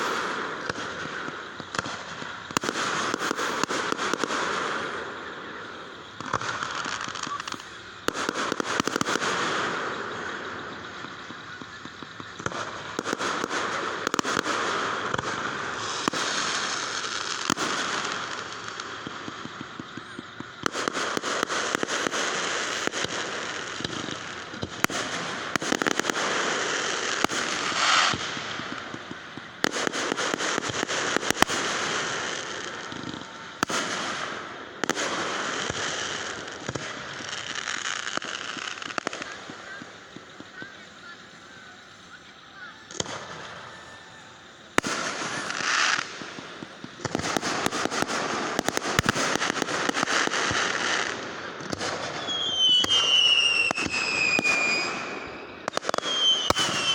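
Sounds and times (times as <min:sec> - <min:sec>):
firework bangs: 0:00.0 - 0:56.9
fireworks crackling and popping: 0:00.0 - 0:56.9.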